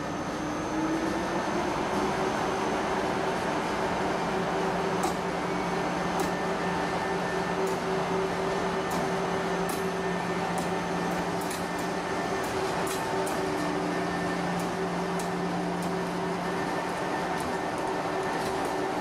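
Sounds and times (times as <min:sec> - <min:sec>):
electric locomotive humming: 0:00.0 - 0:19.0.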